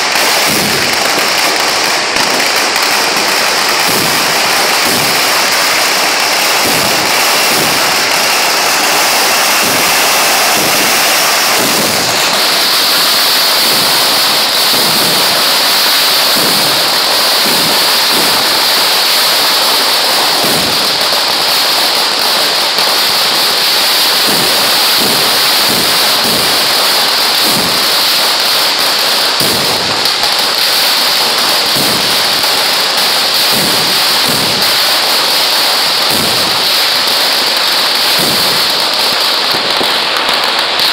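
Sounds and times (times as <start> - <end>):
deep firework bursts: 0.0 - 40.9
firecrackers crackling: 0.0 - 40.9.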